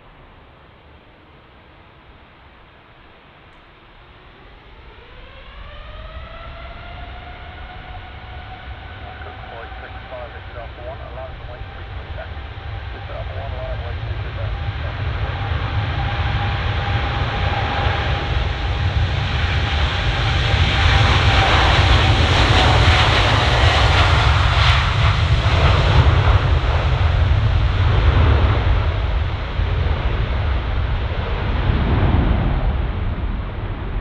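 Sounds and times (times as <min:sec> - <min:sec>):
jet engines at takeoff power: 0:00.0 - 0:34.0.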